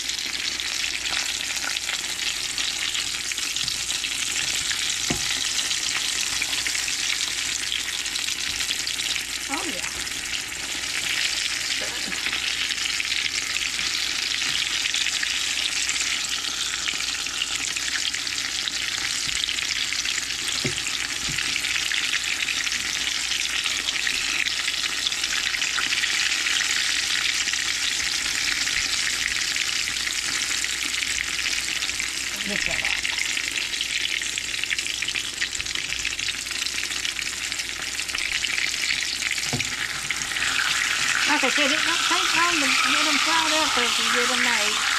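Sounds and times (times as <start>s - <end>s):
food sizzling in oil: 0.0s - 44.9s.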